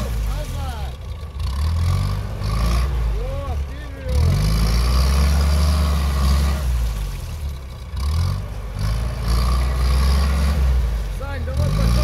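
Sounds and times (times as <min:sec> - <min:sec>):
jeep engine revving hard: 0:00.0 - 0:07.1, 0:07.9 - 0:12.0.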